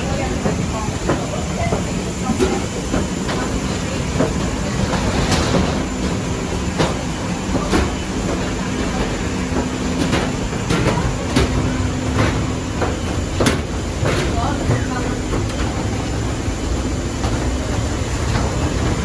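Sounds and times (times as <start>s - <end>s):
footsteps on metal stairs: 0.0s - 19.0s
mechanical rumble of machinery: 0.0s - 19.0s.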